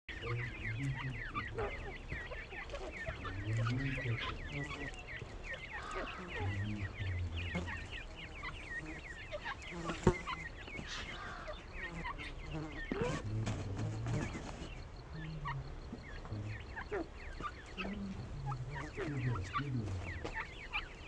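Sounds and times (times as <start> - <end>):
chicks peeping: 0.1 - 21.0.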